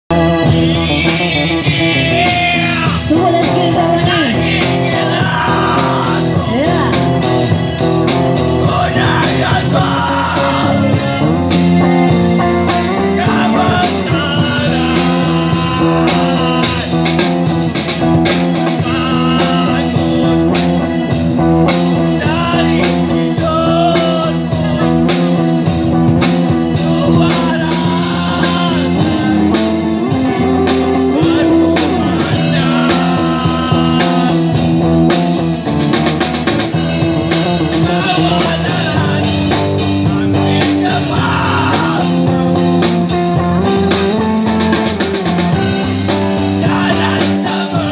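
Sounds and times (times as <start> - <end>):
man singing into microphone: 0.1 - 11.6, 12.4 - 17.6, 18.2 - 25.5, 26.3 - 35.2, 36.7 - 47.9
drum kit beat: 0.1 - 47.9.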